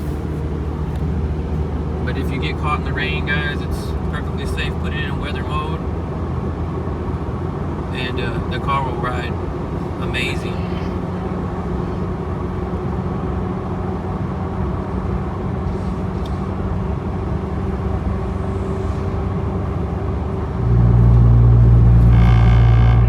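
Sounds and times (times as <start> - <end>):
car engine noise in cabin: 0.0 - 23.0.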